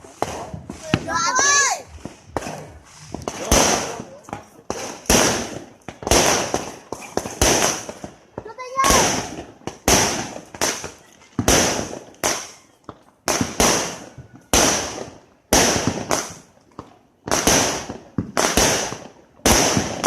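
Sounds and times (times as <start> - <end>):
fireworks bangs with hiss: 0.0 - 20.0.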